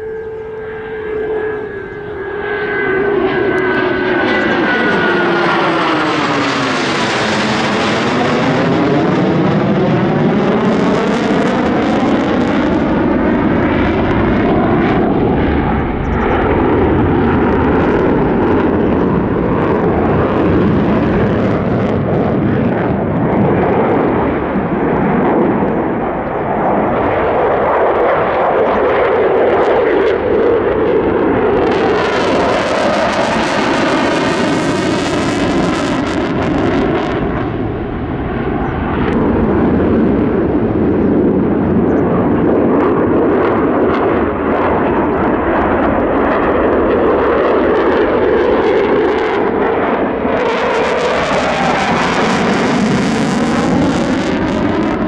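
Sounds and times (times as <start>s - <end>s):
jet roar: 0.0s - 55.0s.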